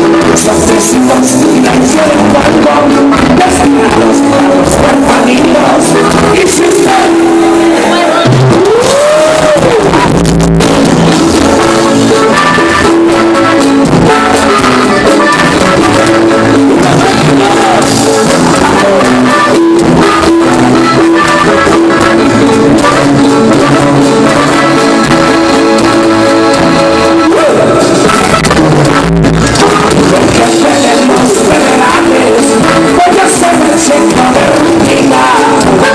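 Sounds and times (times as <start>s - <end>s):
live band playing latin music: 0.0s - 35.9s.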